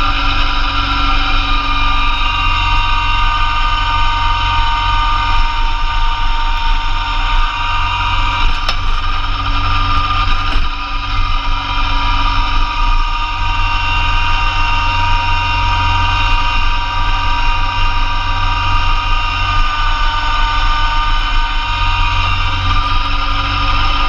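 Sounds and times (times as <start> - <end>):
high whine: 0.0 - 24.0
tractor diesel engine running: 0.0 - 24.0.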